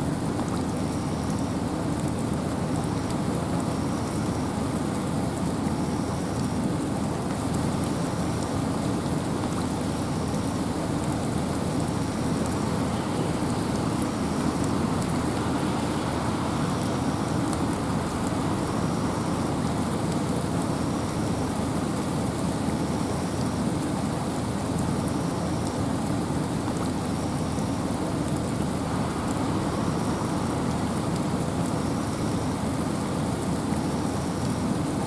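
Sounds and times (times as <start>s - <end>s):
rain falling in a forest: 0.0s - 35.0s
wind: 0.0s - 35.0s.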